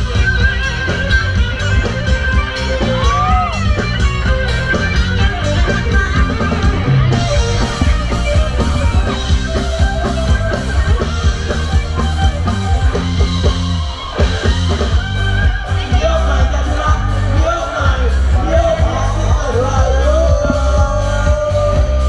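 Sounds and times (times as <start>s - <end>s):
rock music with guitar and drums: 0.0s - 22.0s.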